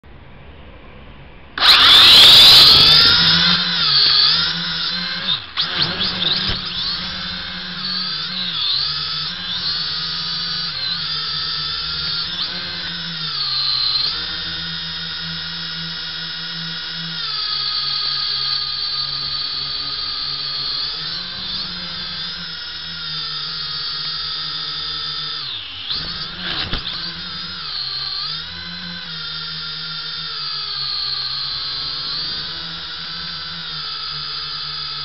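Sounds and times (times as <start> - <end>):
drone propellers whining: 1.5 - 35.0.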